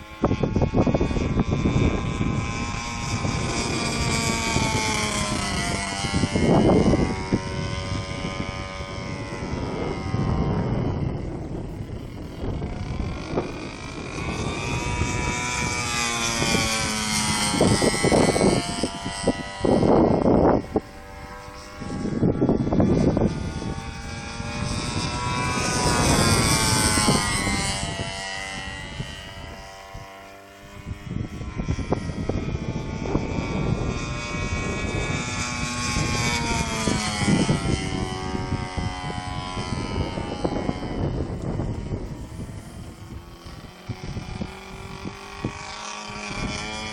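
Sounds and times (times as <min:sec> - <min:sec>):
model plane motor whine: 0:00.0 - 0:46.9
wind buffeting microphone: 0:00.0 - 0:46.9.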